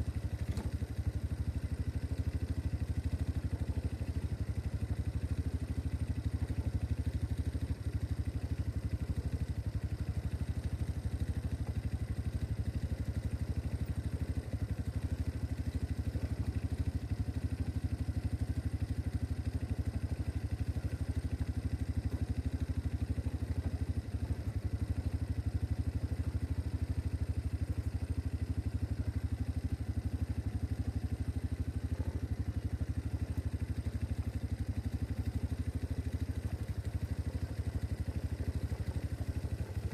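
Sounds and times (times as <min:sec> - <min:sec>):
quad engine idling: 0:00.0 - 0:39.9.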